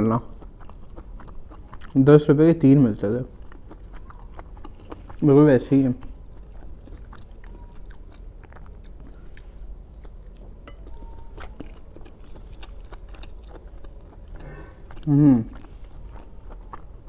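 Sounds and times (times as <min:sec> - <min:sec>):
person chewing food: 0:00.0 - 0:02.2, 0:02.8 - 0:17.0.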